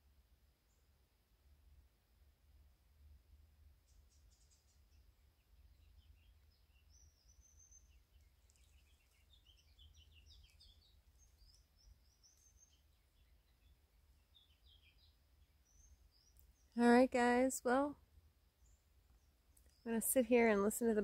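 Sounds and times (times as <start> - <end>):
faint songbirds chirping: 0.0 - 21.0.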